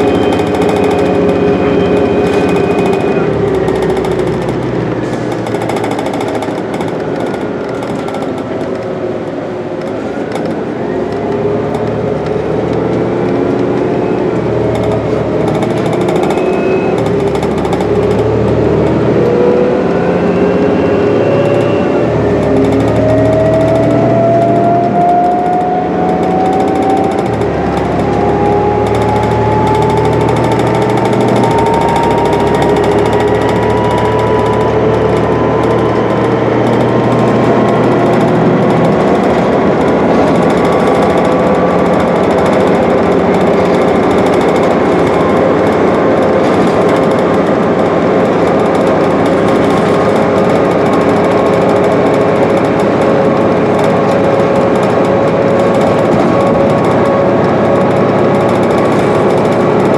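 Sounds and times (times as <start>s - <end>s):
bus diesel engine running: 0.0s - 59.9s
drivetrain whine rising: 0.0s - 59.9s
road and tyre noise: 0.0s - 59.9s.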